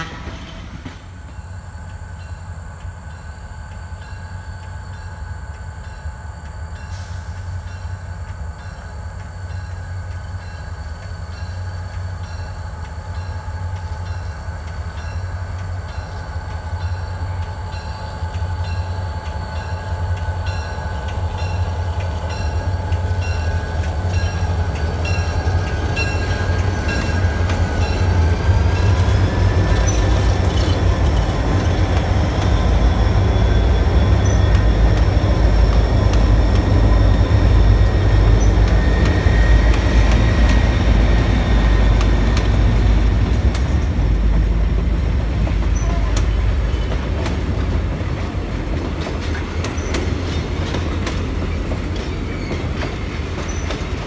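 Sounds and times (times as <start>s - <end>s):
locomotive engines rumbling: 0.0s - 54.0s.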